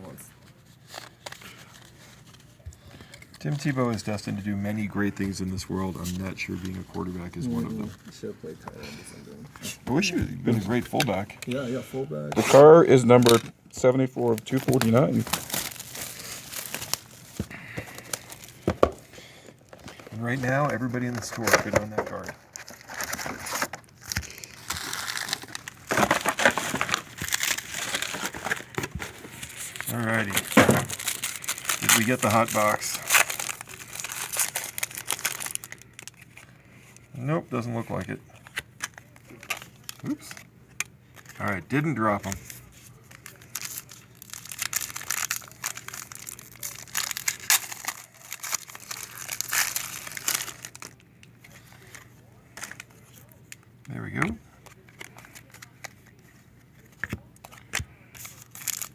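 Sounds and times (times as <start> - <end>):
foil wrappers crinkling: 0.0 - 8.7, 9.4 - 58.9
faint steady hum: 0.0 - 58.9.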